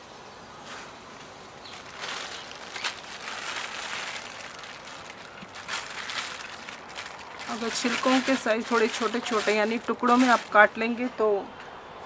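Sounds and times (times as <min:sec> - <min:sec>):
plastic bag crinkling: 0:01.2 - 0:11.0.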